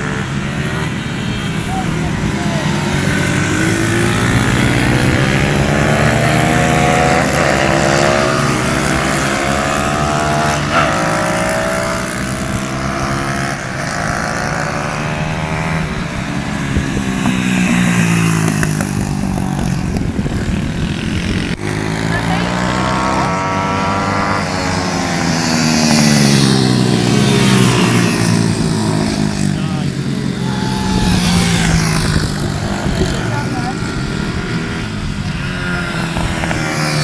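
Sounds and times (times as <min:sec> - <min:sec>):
pit bike engines revving: 0:00.0 - 0:37.0.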